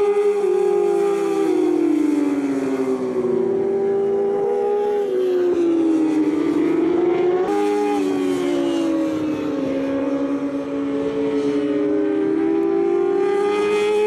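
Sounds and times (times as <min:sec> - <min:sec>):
racing motorcycles at high revs: 0:00.0 - 0:14.0.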